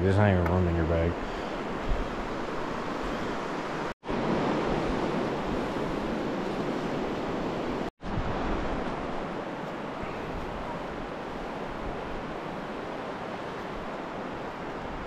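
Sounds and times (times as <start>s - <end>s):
river water rushing: 1.3s - 15.0s.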